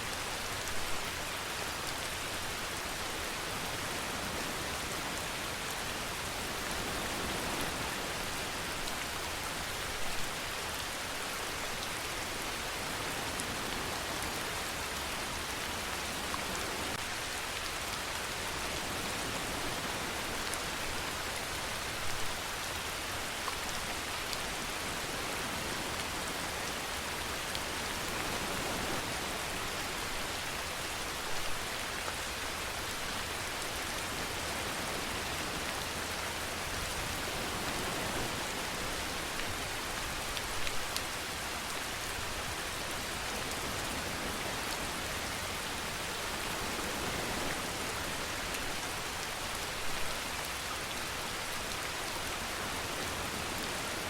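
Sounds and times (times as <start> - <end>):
steady rainfall hiss: 0.0 - 54.0.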